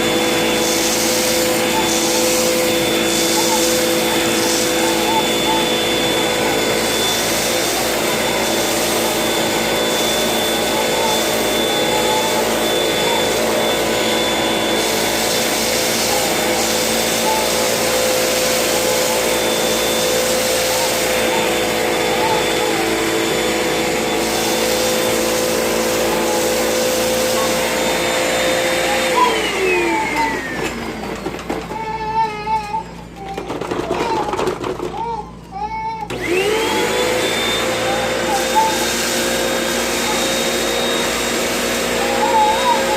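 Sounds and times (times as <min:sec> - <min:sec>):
vacuum motor spinning down: 0:00.0 - 0:31.8, 0:36.1 - 0:42.9
vacuum cleaner running: 0:00.0 - 0:42.9.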